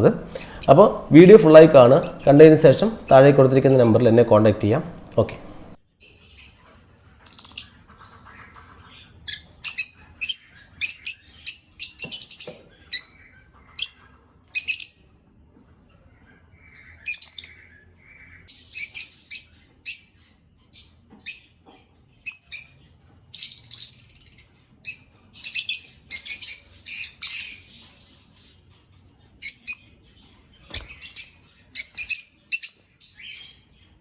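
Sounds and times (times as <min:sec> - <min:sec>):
lovebirds chirping: 0:00.0 - 0:06.6, 0:07.3 - 0:15.2, 0:16.0 - 0:34.0.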